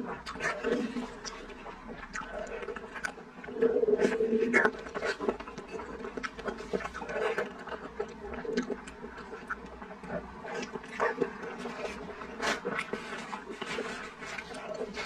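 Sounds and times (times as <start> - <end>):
chewing smacks and squelches: 0.0 - 15.0.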